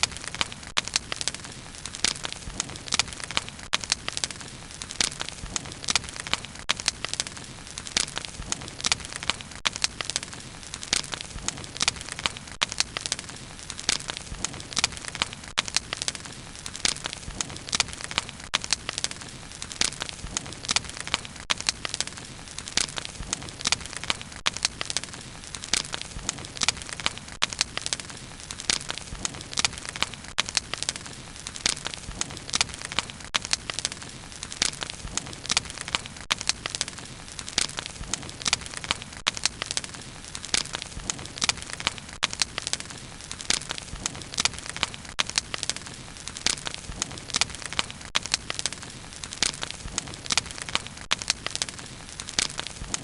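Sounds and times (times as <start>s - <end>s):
low rush of flames: 0.0s - 53.0s
wood crackling and popping: 0.0s - 53.0s.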